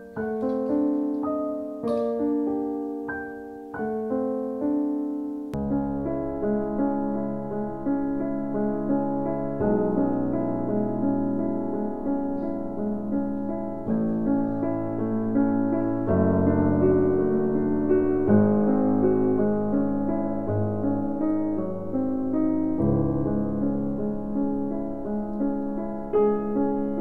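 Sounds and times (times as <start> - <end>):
background piano music: 0.0 - 27.0.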